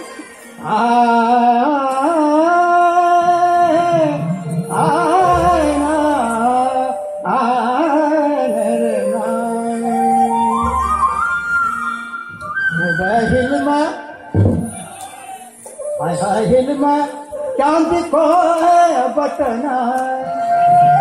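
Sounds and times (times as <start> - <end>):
man singing into a microphone: 0.6 - 11.0, 12.7 - 14.7, 15.8 - 21.0.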